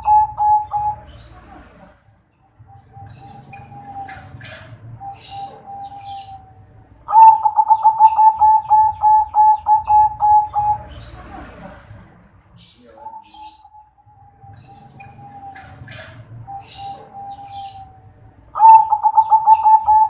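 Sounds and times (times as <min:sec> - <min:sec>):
dove cooing: 0:00.0 - 0:02.1, 0:02.7 - 0:11.9, 0:12.6 - 0:20.0
rolling dove notes: 0:00.0 - 0:20.0.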